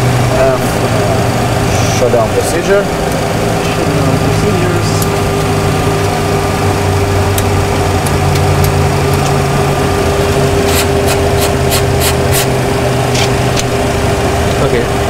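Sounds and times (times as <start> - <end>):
cockpit hum and whine: 0.0 - 15.0.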